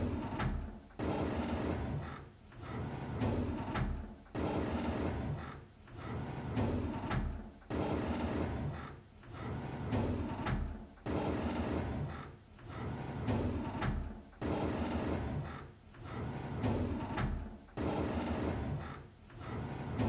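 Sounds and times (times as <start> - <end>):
drawer sliding open with scrape: 0.1 - 20.0.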